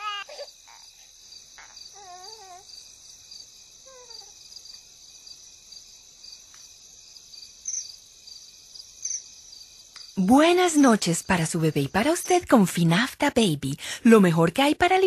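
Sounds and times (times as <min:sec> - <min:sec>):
crickets chirping: 0:00.0 - 0:14.7.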